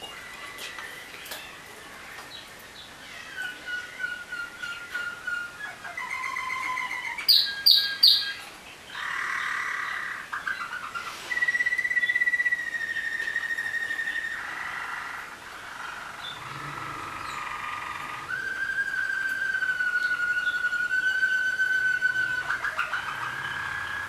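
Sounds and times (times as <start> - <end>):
canaries singing trills: 0.0 - 24.0.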